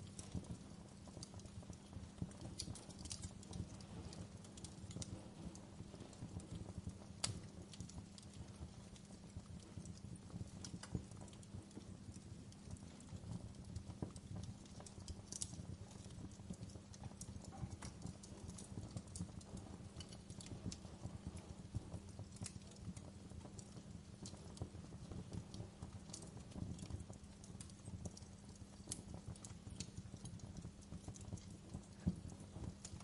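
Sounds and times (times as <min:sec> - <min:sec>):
low rumble of flames: 0:00.0 - 0:33.0
wood crackling and popping: 0:00.0 - 0:33.0.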